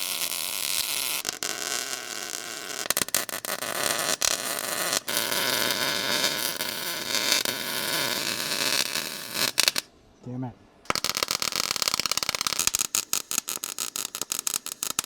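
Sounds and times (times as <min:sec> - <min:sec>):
welding arc crackling hiss: 0:00.0 - 0:09.9, 0:10.9 - 0:15.0.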